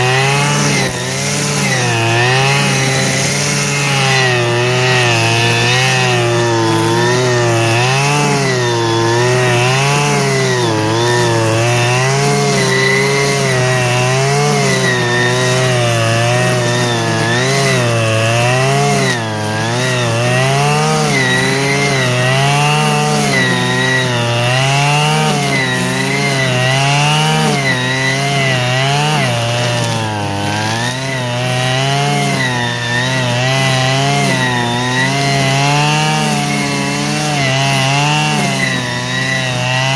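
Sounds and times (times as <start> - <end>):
brushcutter engine revving: 0.0 - 39.9.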